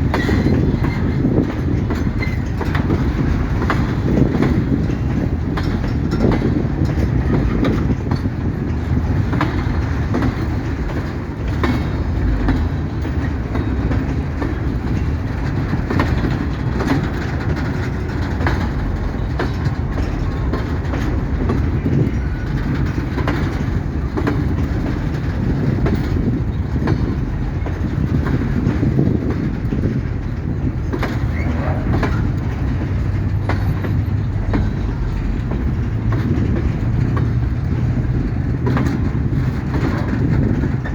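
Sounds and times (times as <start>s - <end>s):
freight train rumbling past: 0.0s - 40.9s
wheels knocking over rail joints: 0.0s - 40.9s.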